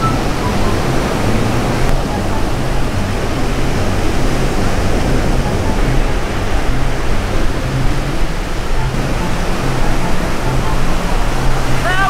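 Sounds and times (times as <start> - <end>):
ocean waves breaking: 0.0 - 12.0
wind rumbling on microphone: 0.0 - 12.0.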